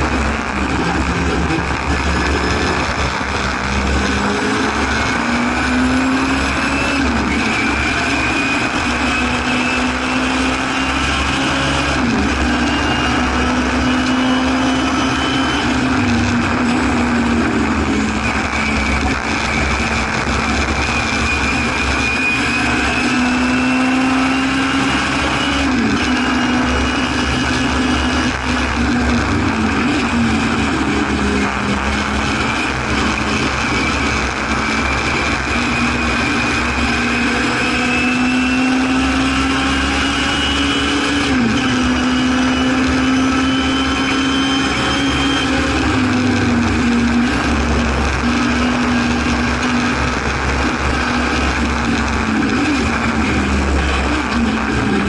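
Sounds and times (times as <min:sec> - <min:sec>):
racing car engine at high revs: 0:00.0 - 0:55.0.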